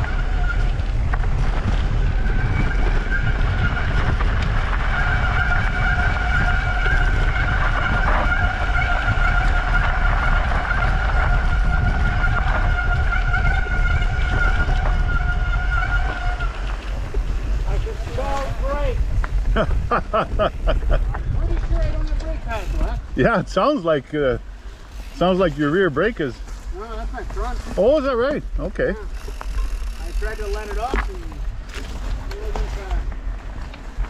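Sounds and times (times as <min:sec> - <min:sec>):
bike trail rumble: 0:00.0 - 0:34.0
high whine from bike: 0:00.0 - 0:34.0
wind noise: 0:00.0 - 0:34.0.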